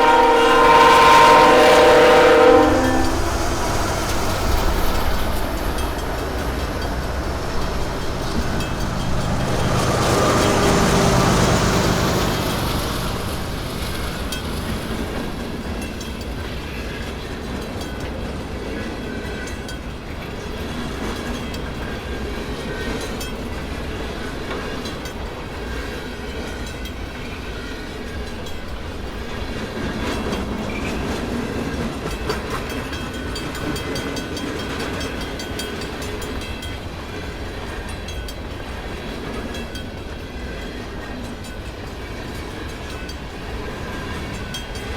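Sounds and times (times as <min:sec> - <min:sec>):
freight train rolling past: 0:00.0 - 0:44.9
wheels clicking over rail joints: 0:02.9 - 0:27.3, 0:27.9 - 0:44.9.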